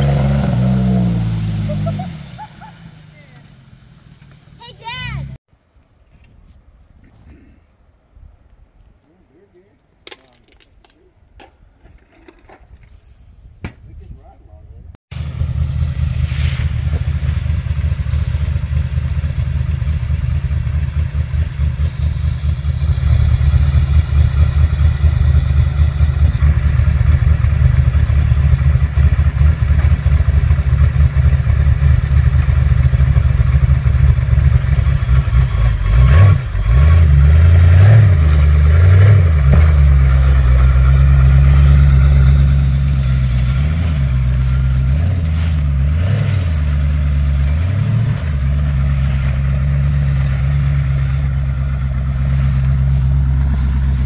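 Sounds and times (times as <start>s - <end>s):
buggy engine rumbling and revving: 0.0s - 5.4s, 15.1s - 54.0s.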